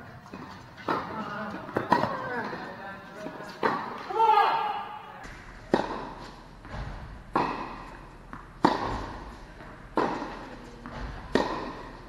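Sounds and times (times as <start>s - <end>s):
tennis balls struck by rackets: 0.0s - 2.6s, 3.3s - 4.1s, 5.2s - 12.0s.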